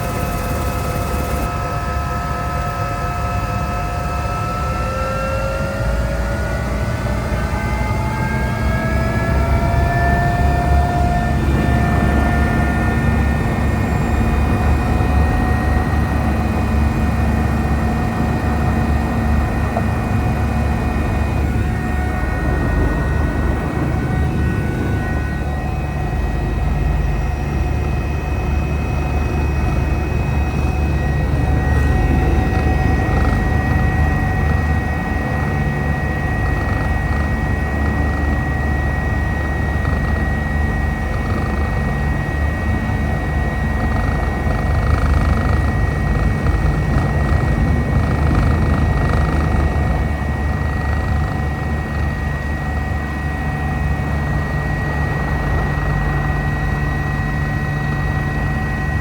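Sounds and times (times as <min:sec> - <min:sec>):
helicopter rotor thrum: 0:00.0 - 0:01.9, 0:06.2 - 0:59.0
high turbine whine: 0:00.0 - 0:59.0.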